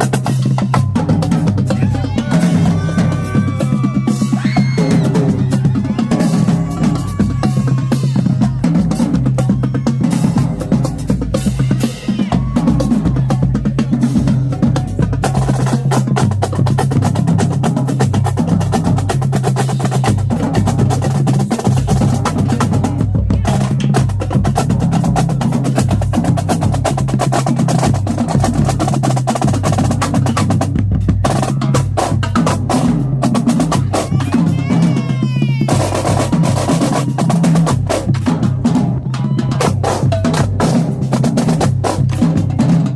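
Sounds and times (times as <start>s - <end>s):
low bass drum: 0.0s - 42.9s.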